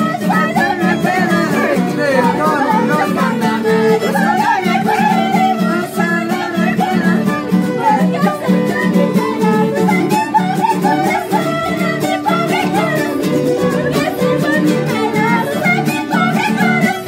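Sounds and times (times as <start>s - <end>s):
acoustic guitar strumming: 0.0s - 17.0s
people singing along: 0.0s - 17.0s
violin melody: 0.0s - 17.0s.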